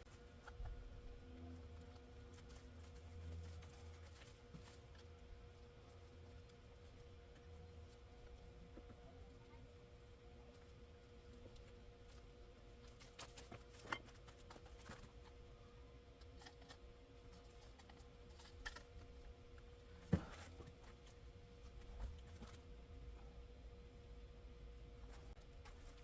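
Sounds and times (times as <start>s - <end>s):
faint steady hum: 0.0s - 26.0s
soft handling clicks and rustles: 0.1s - 15.5s, 16.1s - 22.7s, 25.0s - 26.0s.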